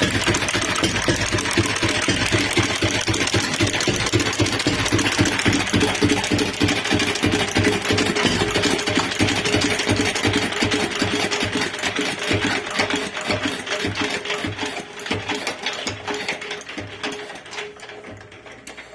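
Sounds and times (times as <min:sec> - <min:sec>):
stationary engine firing beats: 0:00.0 - 0:17.7.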